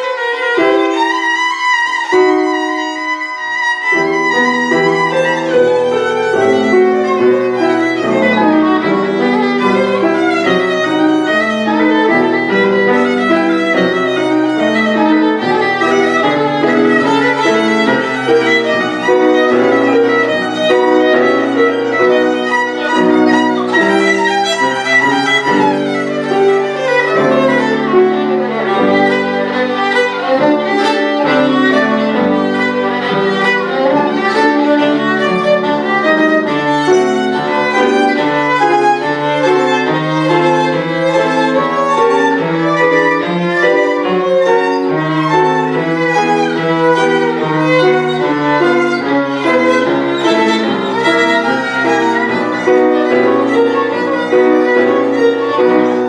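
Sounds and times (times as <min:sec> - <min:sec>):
solo violin playing fast notes: 0:00.0 - 0:56.0.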